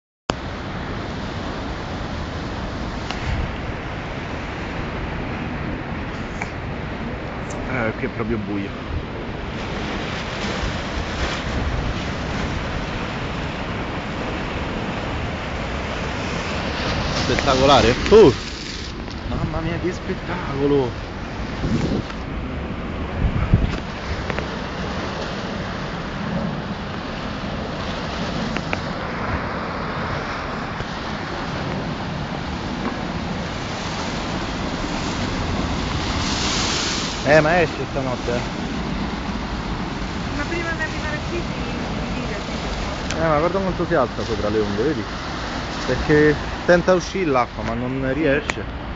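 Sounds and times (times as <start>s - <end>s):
flood water rushing and splashing: 0.3s - 48.9s
wind buffeting microphone: 0.4s - 48.9s.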